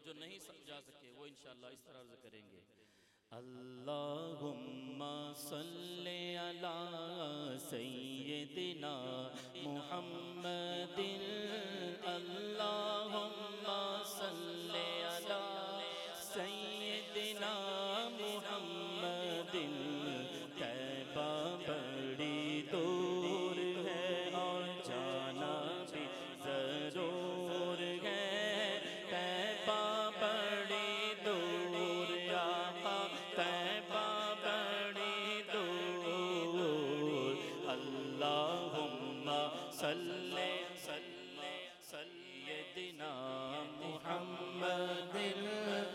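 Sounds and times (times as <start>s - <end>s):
man chanting devotional song: 0.0s - 2.6s, 3.3s - 45.9s.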